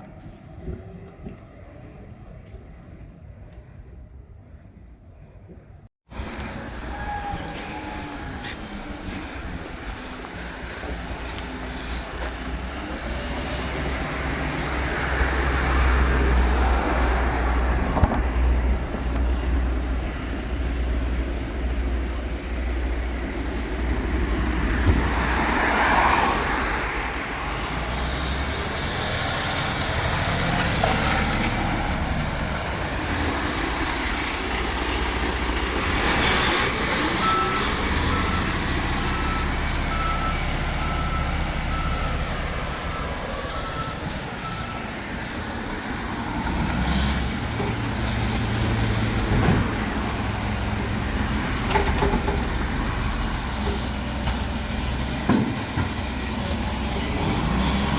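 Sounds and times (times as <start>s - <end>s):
truck engine rumbling: 5.2s - 57.9s.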